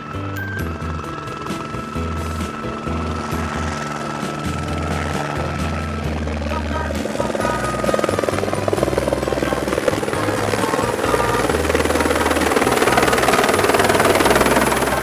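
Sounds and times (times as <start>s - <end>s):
background music with bass line: 0.0s - 15.0s
helicopter rotor chopping: 0.0s - 15.0s.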